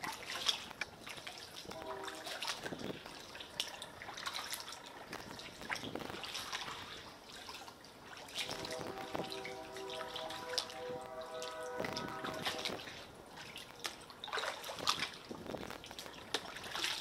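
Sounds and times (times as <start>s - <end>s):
water dripping and splashing: 0.0s - 17.0s.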